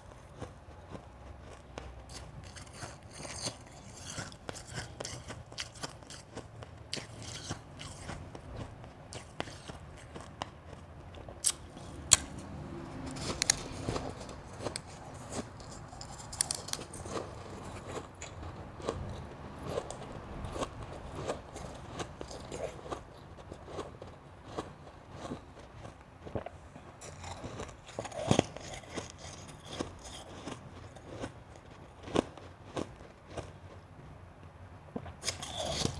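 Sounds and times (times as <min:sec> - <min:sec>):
chewing crunchy ice: 0:00.0 - 0:33.8, 0:35.0 - 0:35.9.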